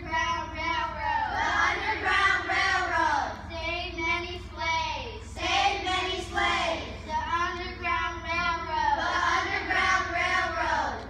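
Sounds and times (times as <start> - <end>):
children singing together: 0.0 - 3.5, 5.3 - 11.0.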